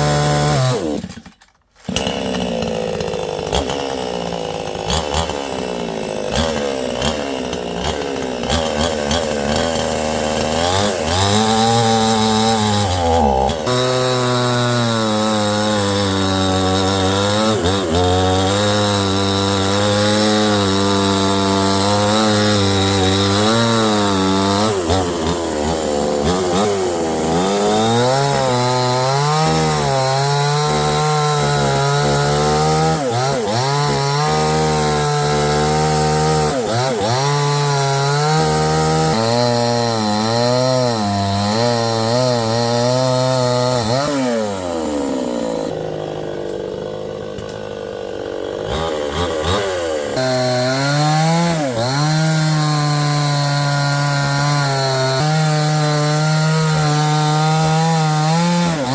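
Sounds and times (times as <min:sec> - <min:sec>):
chainsaw cutting: 0:00.0 - 0:58.9.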